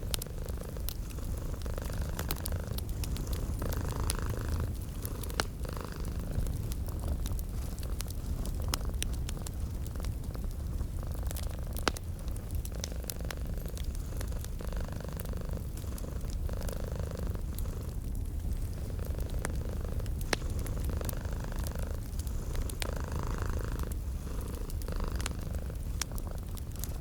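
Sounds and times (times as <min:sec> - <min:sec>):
cat purring: 0:00.0 - 0:27.0
wood fire crackling: 0:00.0 - 0:27.0.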